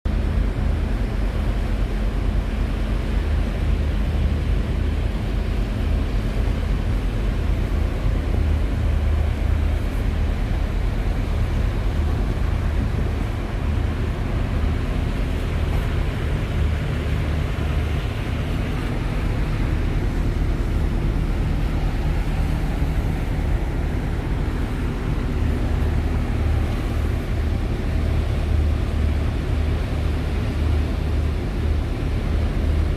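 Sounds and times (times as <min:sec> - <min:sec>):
boat engine humming: 0:00.1 - 0:32.9
constant rushing noise: 0:00.1 - 0:32.9.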